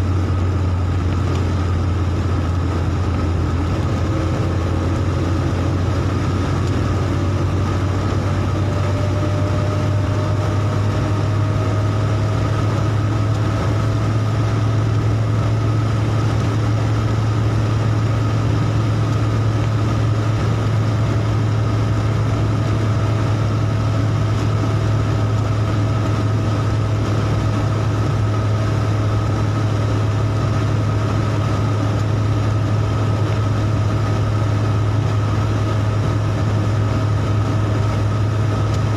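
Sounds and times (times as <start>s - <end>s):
car engine drone: 0.0s - 38.9s.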